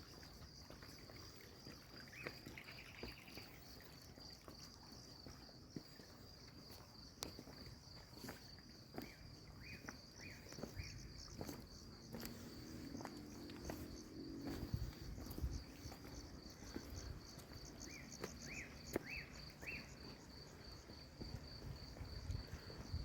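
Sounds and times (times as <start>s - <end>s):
crickets chirping: 0.0s - 23.0s
insect chirps: 0.0s - 23.0s.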